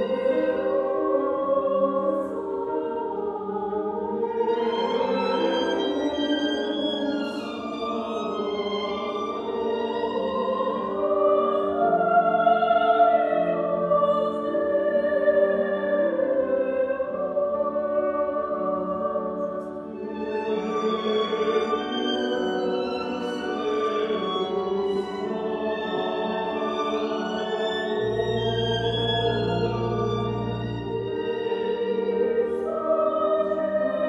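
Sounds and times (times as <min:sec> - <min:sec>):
mixed choir singing: 0:00.0 - 0:34.0.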